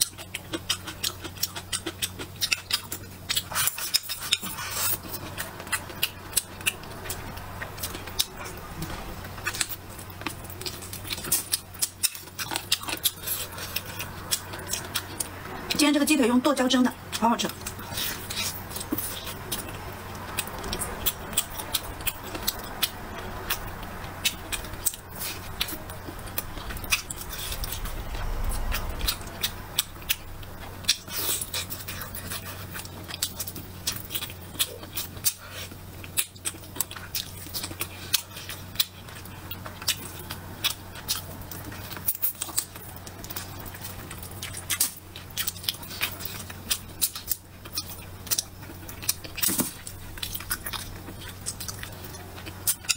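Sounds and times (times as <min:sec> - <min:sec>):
person chewing food: 0:00.0 - 0:15.8, 0:17.0 - 0:52.9.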